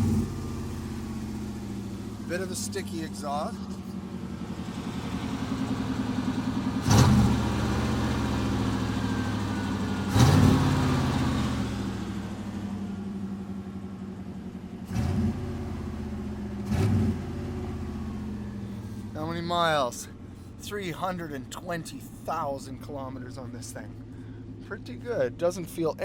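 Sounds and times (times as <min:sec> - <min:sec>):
truck engine idling and revving: 0:00.0 - 0:26.0.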